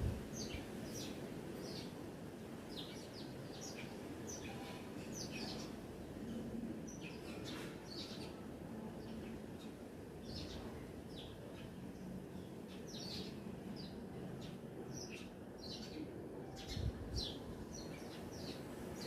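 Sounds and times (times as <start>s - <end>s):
low outdoor background noise: 0.0s - 19.0s
small songbirds chirping: 0.2s - 2.0s, 2.6s - 5.9s, 6.9s - 19.0s.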